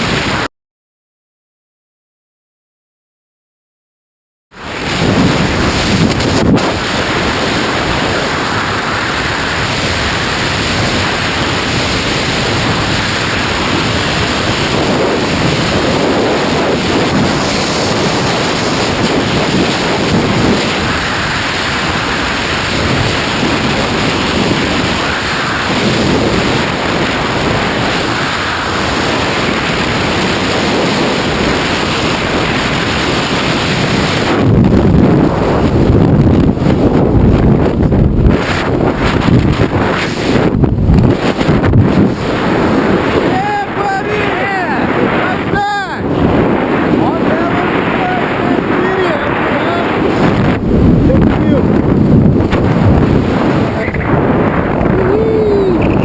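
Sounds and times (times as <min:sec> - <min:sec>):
freefall wind blasting microphone: 0:00.0 - 0:00.5, 0:04.5 - 0:56.0.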